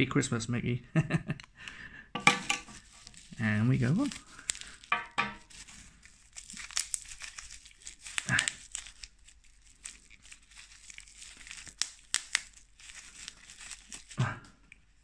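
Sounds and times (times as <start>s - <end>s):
bubble wrap crinkling: 2.7s - 15.0s.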